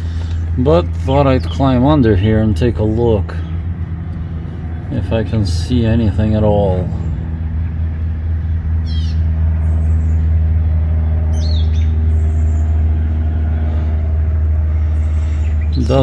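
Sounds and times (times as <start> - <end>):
birds chirping: 0.0 - 16.0
low mechanical hum: 0.0 - 16.0.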